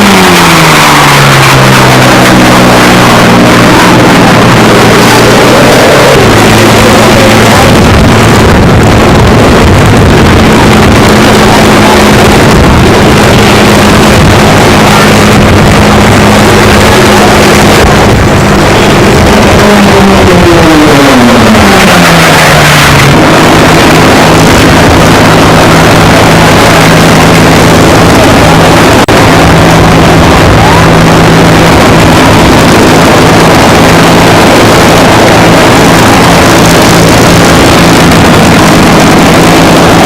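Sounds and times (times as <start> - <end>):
racing aircraft engine: 0.0 - 40.0.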